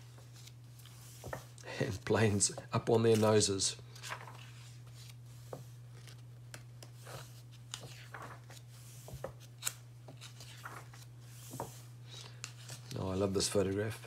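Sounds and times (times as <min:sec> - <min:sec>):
book pages rustling: 0:00.1 - 0:14.0.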